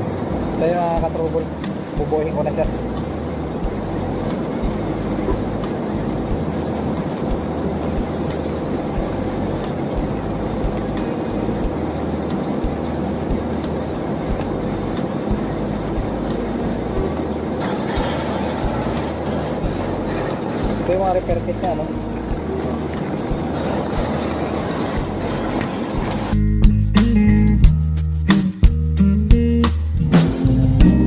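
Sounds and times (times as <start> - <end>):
hissy noise: 0.0 - 27.6
engine running: 0.0 - 27.7.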